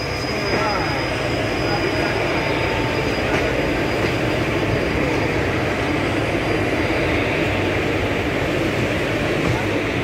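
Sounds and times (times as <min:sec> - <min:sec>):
train wheels rolling on rails: 0:00.0 - 0:10.0.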